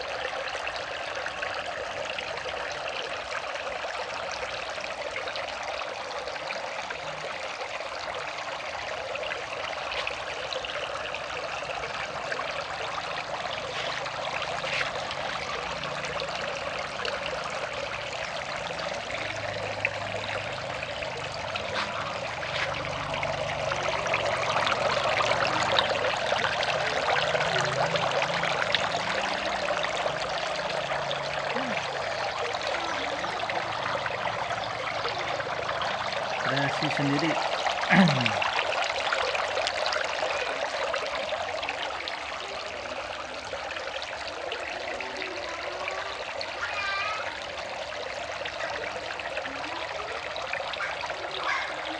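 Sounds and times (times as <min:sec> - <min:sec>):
waterfall splashing into pond: 0:00.0 - 0:51.9.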